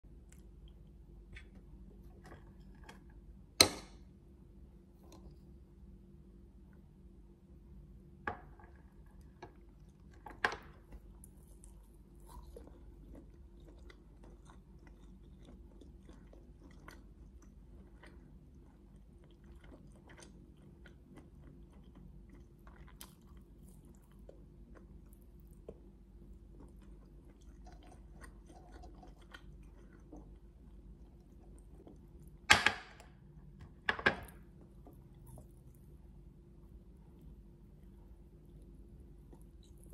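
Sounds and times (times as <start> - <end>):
person chewing food: 0.1 - 3.4, 8.4 - 32.5, 33.2 - 36.2, 37.0 - 39.9.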